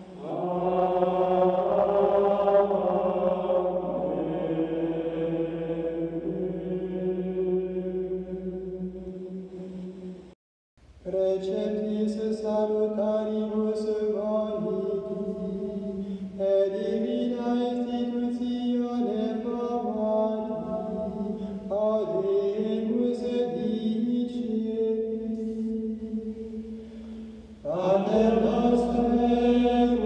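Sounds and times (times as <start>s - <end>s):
men singing plainchant: 0.0s - 8.4s, 11.1s - 30.0s.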